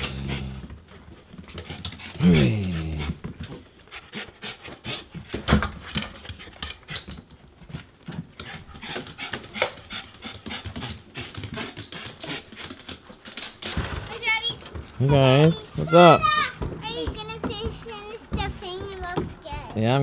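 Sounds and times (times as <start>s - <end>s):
dog panting: 0.0s - 19.8s.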